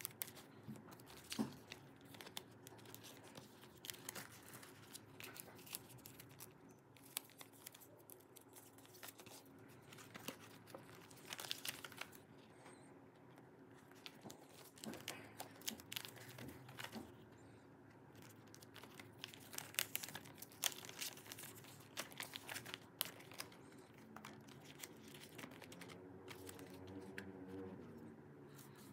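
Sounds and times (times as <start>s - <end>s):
plastic sleeves crinkling: 0.0s - 17.5s, 18.1s - 27.8s
faint low hum: 0.0s - 28.9s.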